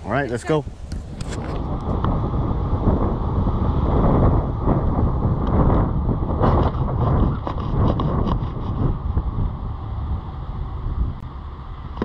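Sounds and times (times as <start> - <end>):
road rumble: 0.0 - 12.0
wind rushing over microphone: 0.0 - 12.0.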